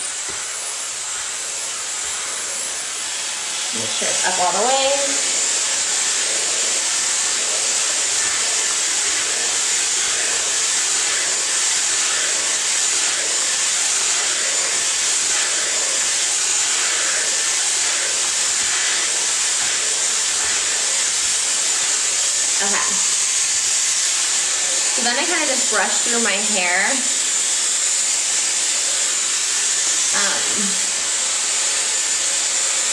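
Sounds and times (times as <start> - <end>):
hair dryer blowing: 0.0 - 32.9.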